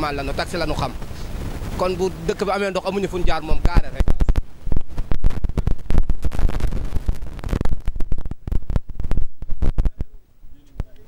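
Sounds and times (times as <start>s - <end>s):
microphone buffeting thumps: 0.0s - 10.2s.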